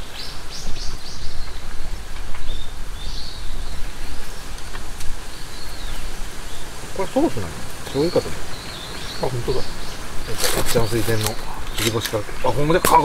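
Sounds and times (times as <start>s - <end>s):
small bird chirping: 0.0s - 13.0s
steady noisy hiss: 0.0s - 13.0s.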